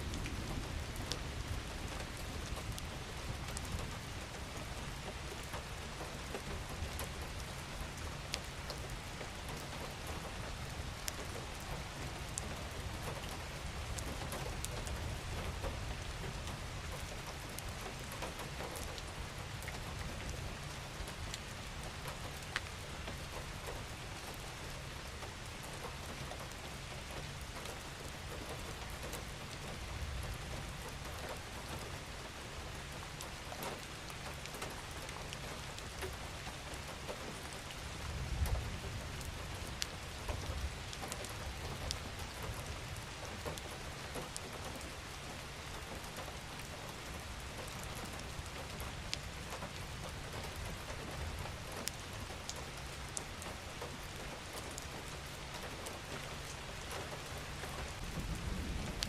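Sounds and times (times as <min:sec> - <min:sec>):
rain drops pattering: 0:00.0 - 0:59.0
rain hiss: 0:00.0 - 0:59.0.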